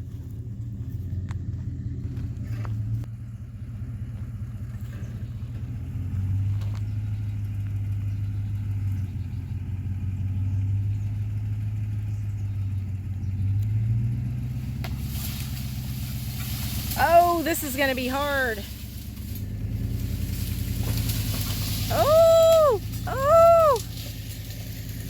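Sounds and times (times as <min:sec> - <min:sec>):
truck engine running under load: 0:00.0 - 0:25.0.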